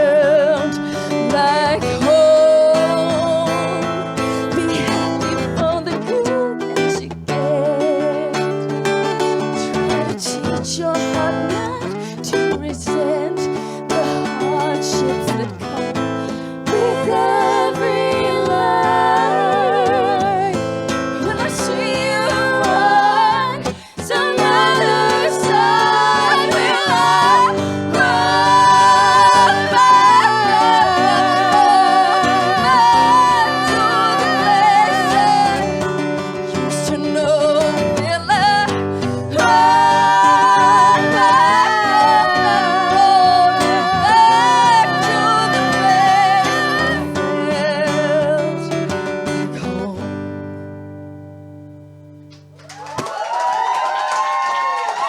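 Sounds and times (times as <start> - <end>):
person singing with vibrato: 0.0 - 50.3
plucked acoustic guitar: 0.0 - 52.6.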